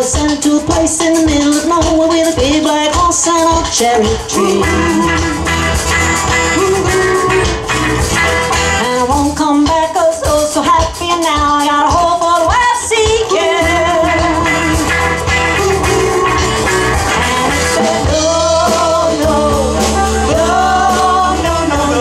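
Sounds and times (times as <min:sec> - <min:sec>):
bending lead guitar line: 0:00.0 - 0:22.0
live rock band playing: 0:00.0 - 0:22.0.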